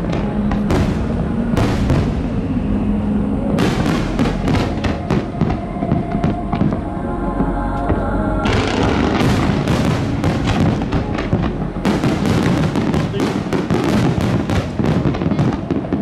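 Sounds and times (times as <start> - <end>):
fireworks bursting and crackling: 0.0 - 6.9, 7.9 - 16.0
music with held notes: 0.0 - 16.0.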